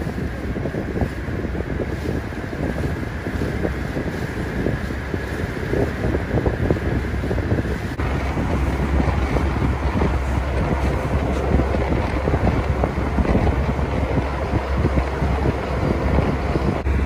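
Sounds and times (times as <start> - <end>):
ferry engine rumble: 0.0 - 17.0
wind noise on microphone: 0.0 - 17.0.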